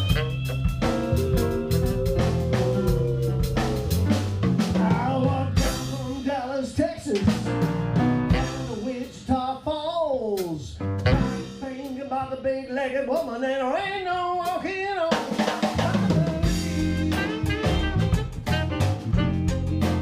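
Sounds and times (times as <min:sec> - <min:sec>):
blues guitar: 0:00.0 - 0:09.4, 0:10.3 - 0:13.4, 0:14.2 - 0:20.0
drum kit beat: 0:00.0 - 0:09.4, 0:10.4 - 0:12.4, 0:14.4 - 0:20.0.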